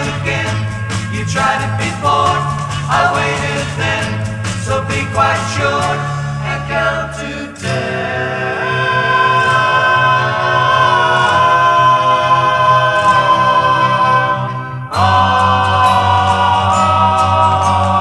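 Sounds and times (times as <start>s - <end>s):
beat-pop band playing: 0.0s - 18.0s
male group vocals harmonising: 0.0s - 18.0s.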